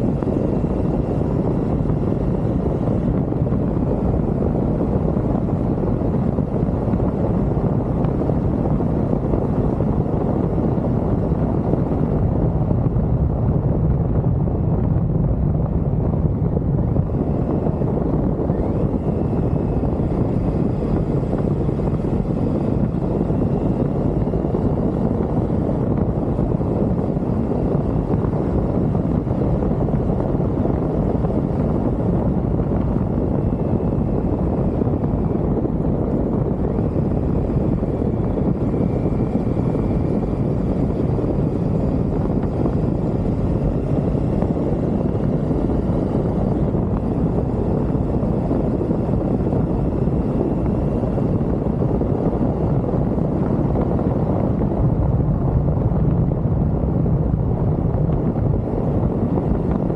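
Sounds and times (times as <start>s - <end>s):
faint whine: 0.0s - 59.9s
motorcycle engine and road noise: 0.0s - 59.9s
wind rushing on microphone: 0.0s - 59.9s.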